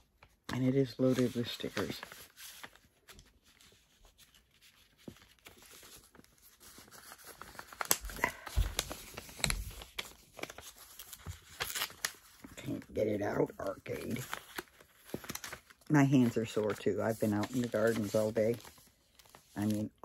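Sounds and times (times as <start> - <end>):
envelope rustling: 0.0 - 20.0.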